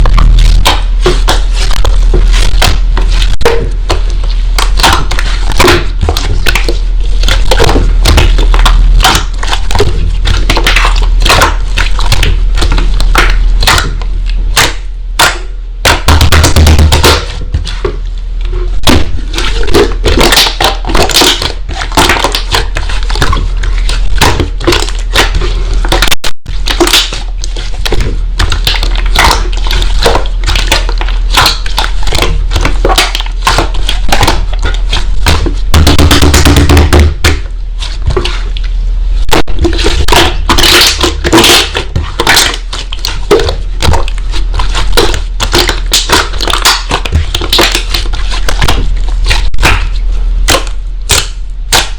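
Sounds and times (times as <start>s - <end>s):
slime crackling and squelching: 0.0s - 51.9s.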